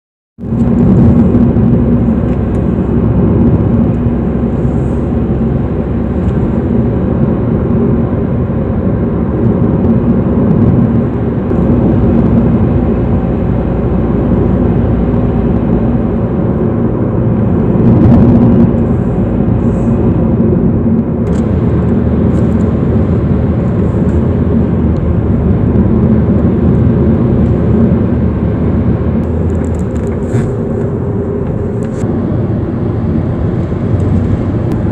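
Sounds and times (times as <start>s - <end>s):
car engine and road noise: 0.4s - 34.9s.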